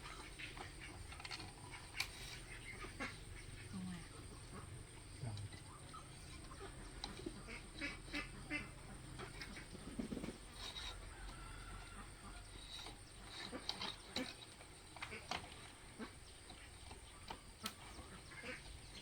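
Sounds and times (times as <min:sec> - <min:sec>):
poultry clucking and calling: 0:00.0 - 0:19.0.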